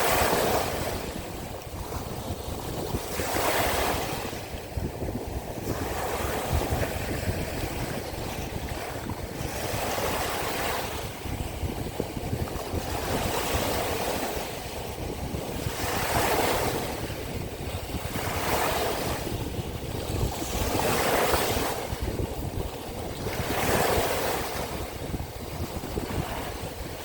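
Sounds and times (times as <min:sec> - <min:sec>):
small waves washing onto shore: 0:00.0 - 0:27.0
wind rumbling on microphone: 0:00.0 - 0:27.0.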